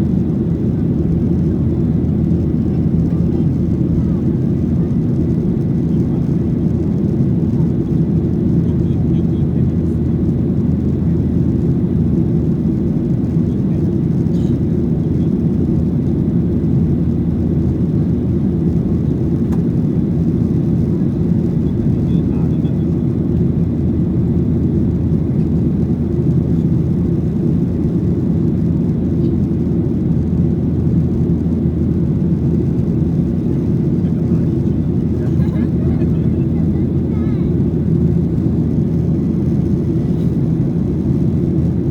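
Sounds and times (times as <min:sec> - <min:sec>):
jet engine roar inside cabin: 0:00.0 - 0:41.9.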